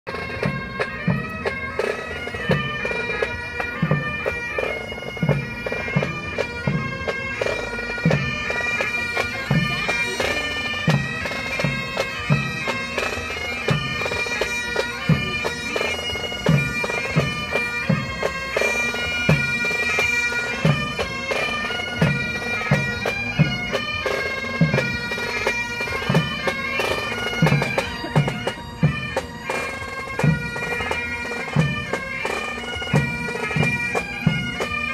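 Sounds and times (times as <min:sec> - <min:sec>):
bagpipes playing: 0:00.1 - 0:34.9.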